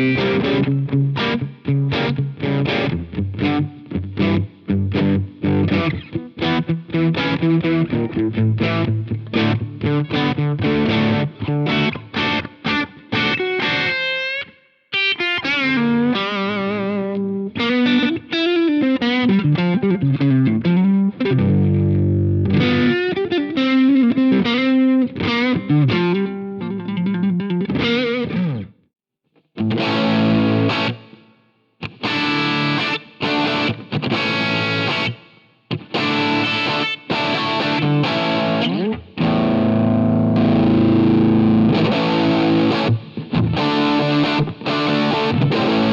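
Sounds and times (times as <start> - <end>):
chopped guitar chords: 0.0 - 28.8, 29.4 - 45.9
guitar lead with string bends: 0.0 - 28.8, 29.5 - 45.9
overdriven electric guitar: 0.0 - 45.9.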